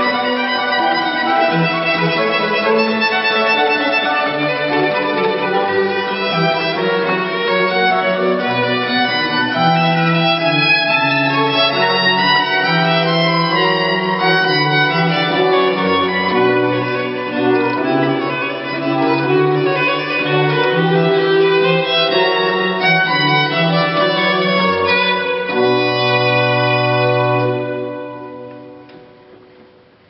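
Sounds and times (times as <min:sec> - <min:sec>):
classical chamber music: 0:00.0 - 0:30.0.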